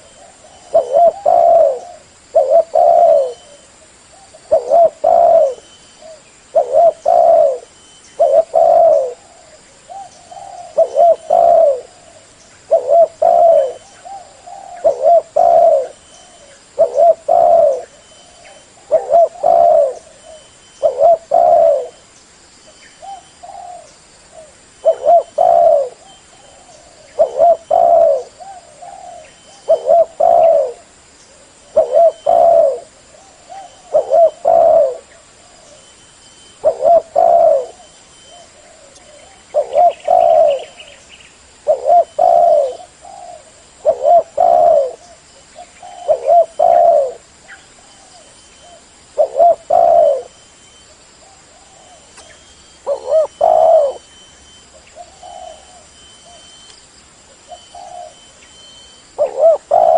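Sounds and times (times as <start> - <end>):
dove cooing: 0.0 - 22.1, 23.0 - 50.5, 51.2 - 56.7, 57.3 - 59.9.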